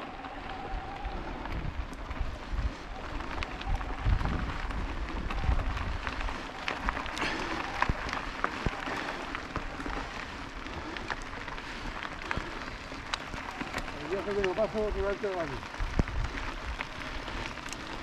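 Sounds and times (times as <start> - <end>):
bike tyres crunching on trail: 0.0 - 18.0
wind rumbling on microphone: 0.0 - 18.0
twigs snapping under tyres: 2.9 - 18.0.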